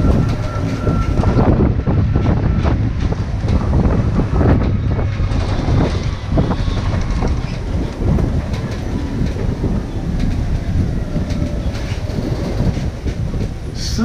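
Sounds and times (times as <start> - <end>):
tram body rattling: 0.0 - 14.0
tyres rumbling on road: 0.0 - 14.0.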